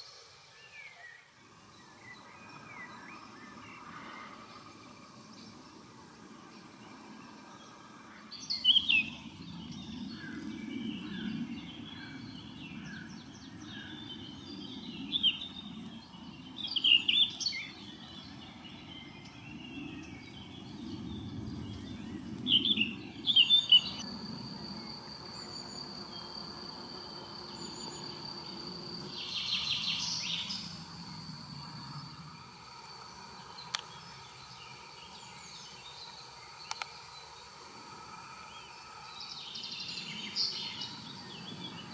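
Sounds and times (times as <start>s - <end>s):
high insect-like drone: 0.0s - 41.9s
songbird singing: 0.0s - 41.9s.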